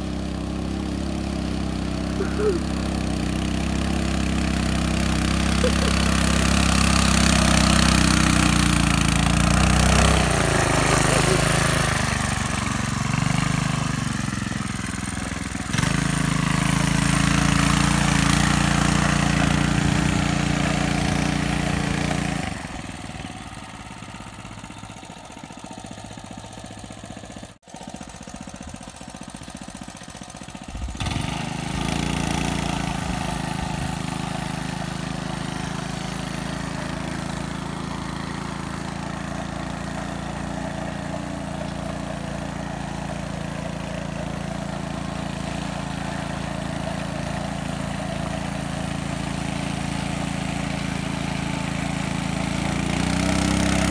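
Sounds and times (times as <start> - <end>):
go-kart engine running: 0.0 - 53.9.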